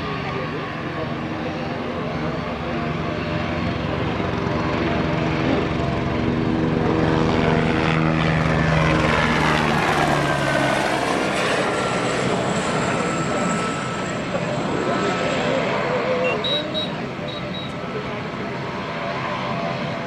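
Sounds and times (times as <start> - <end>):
propeller aircraft passing by: 0.0 - 20.0.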